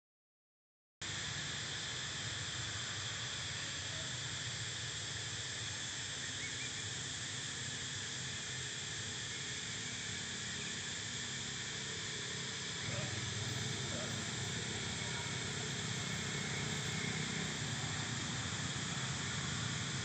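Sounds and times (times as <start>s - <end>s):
insect chorus hissing: 1.0s - 20.0s.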